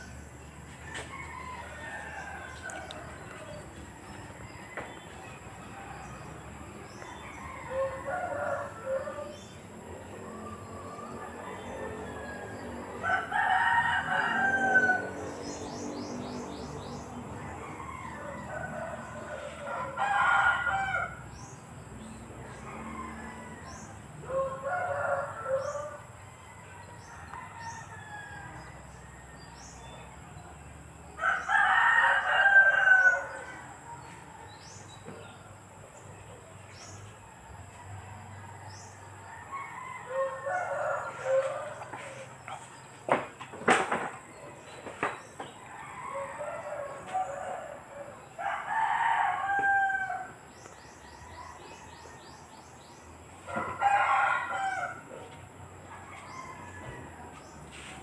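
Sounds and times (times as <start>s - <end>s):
rooster crowing: 0.7s - 30.2s, 31.1s - 35.4s, 36.7s - 43.1s, 45.4s - 58.0s.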